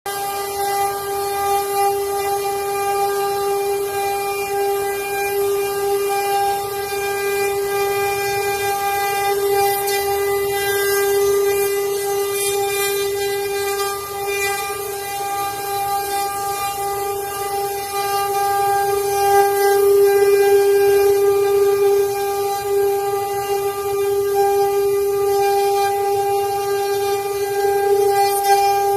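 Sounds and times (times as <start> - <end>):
router spindles whining: 0.1 - 28.9.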